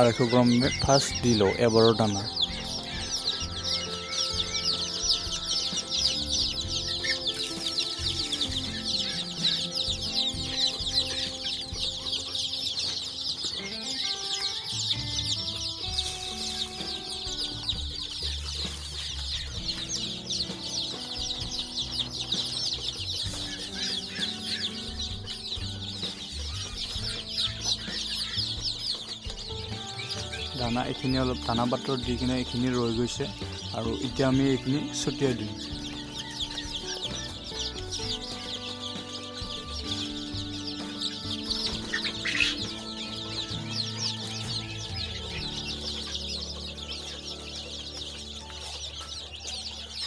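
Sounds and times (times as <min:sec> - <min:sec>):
chicks peeping: 0:00.0 - 0:50.0
soft background music: 0:00.0 - 0:50.0.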